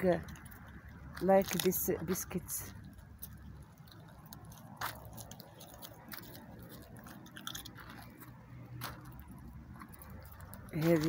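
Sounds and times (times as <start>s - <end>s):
dog crunching food: 0.2s - 11.0s.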